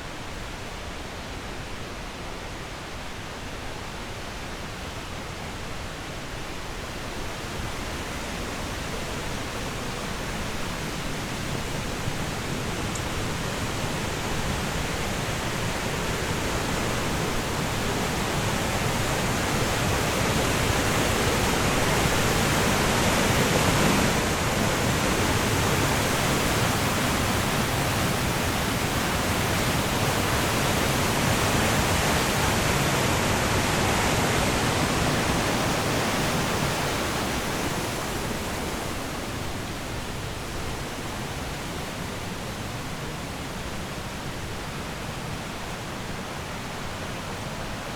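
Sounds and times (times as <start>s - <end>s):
rushing water: 0.0s - 47.9s.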